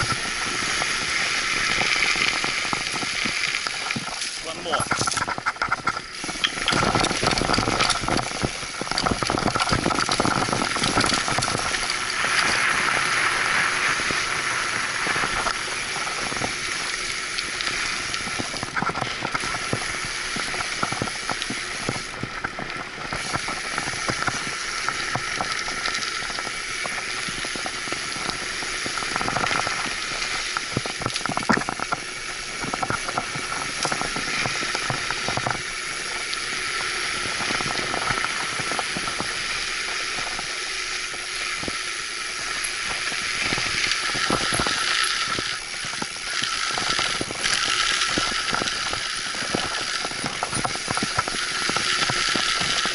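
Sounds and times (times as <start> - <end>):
bike clicks and rattles: 0.0 - 52.9.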